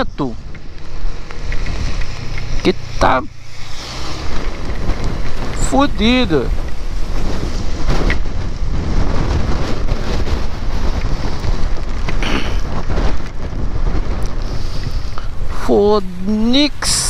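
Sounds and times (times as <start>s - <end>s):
wind buffeting microphone: 0.0s - 17.0s
rain and road spray hiss: 0.1s - 17.0s.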